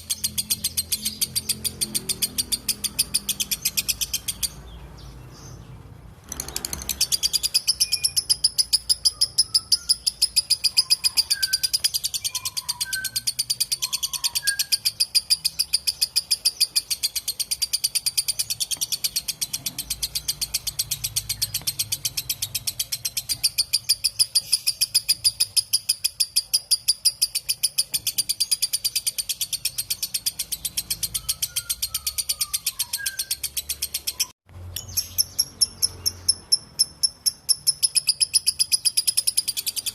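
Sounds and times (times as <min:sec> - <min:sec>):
lovebird chattering trill: 0:00.0 - 0:04.8, 0:06.2 - 0:39.9.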